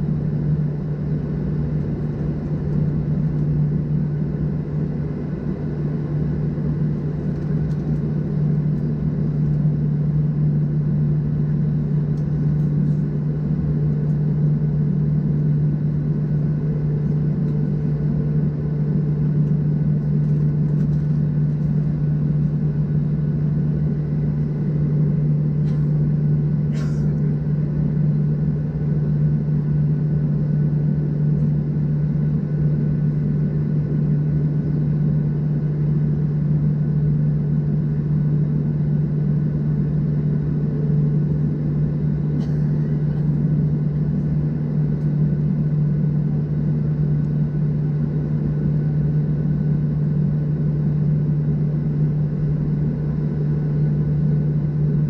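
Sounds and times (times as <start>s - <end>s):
aircraft cabin drone: 0.0s - 55.0s.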